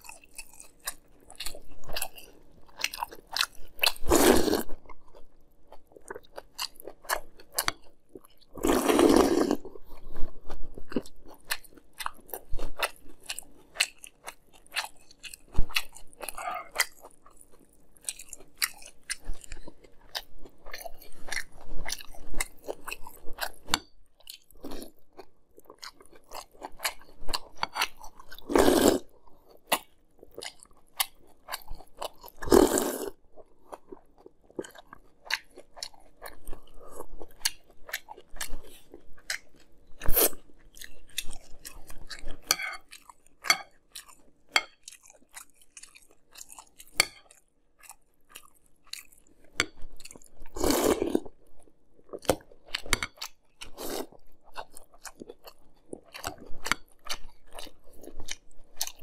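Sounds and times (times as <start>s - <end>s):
person chewing crunchy cereal: 0.0s - 59.0s.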